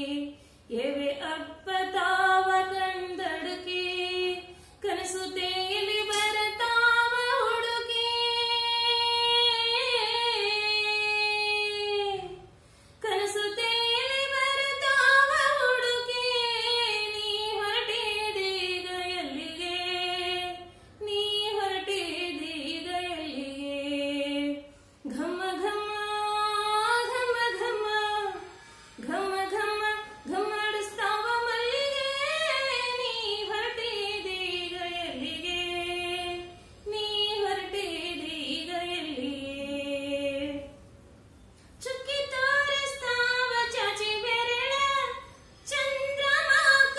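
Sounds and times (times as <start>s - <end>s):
woman singing unaccompanied: 0.0s - 40.8s, 41.8s - 46.9s.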